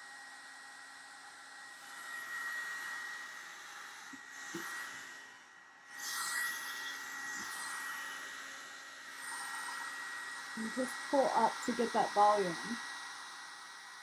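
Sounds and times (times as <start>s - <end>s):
hot-air brush blowing: 0.7s - 14.0s.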